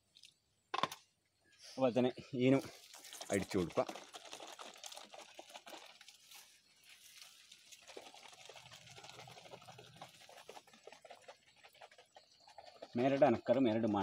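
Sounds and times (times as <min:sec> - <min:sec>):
liquid pattering on leaves: 0:02.7 - 0:14.0.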